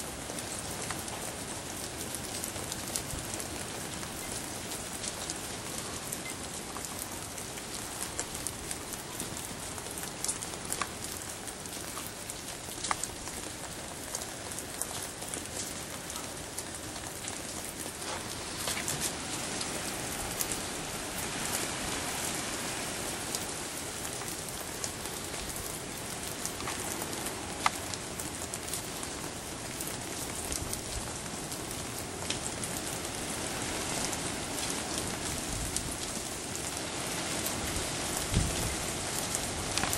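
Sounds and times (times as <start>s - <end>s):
sharp ticks of raindrops: 0.0s - 39.9s
steady rain falling: 0.0s - 39.9s.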